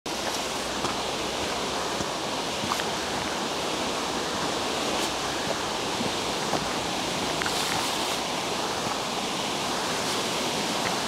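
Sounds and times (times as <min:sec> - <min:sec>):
river water rushing: 0:00.1 - 0:11.0.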